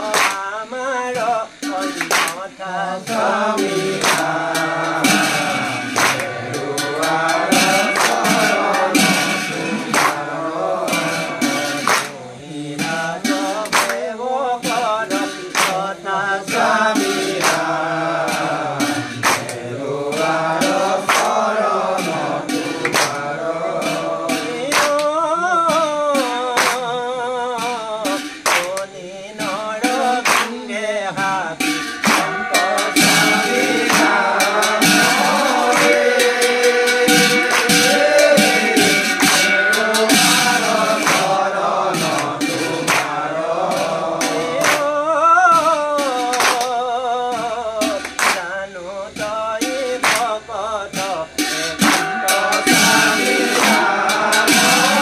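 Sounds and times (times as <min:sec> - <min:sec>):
devotional singing: 0:00.0 - 0:55.0
sharp percussive strikes: 0:00.0 - 0:55.0.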